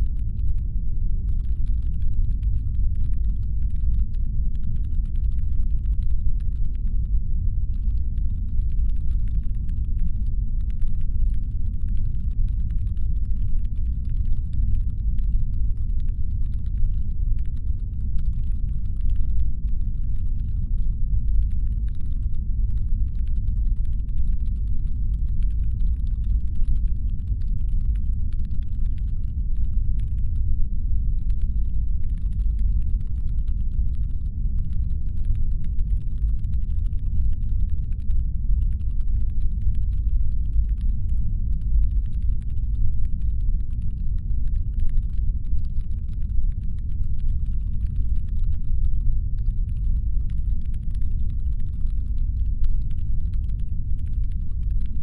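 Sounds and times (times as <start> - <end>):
deep low rumble: 0.0 - 55.0
faint patter of small clicks: 0.0 - 55.0.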